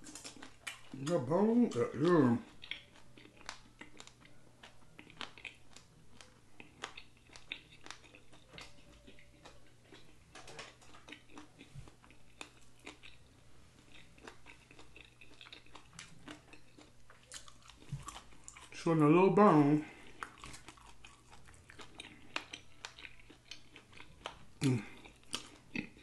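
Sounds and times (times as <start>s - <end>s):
bones clicking and crunching: 0.0s - 26.0s
quiet chewing: 0.0s - 26.0s.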